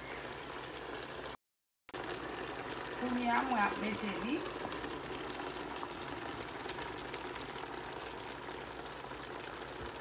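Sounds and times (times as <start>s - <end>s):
food bubbling and sizzling in a pot: 0.0s - 10.0s.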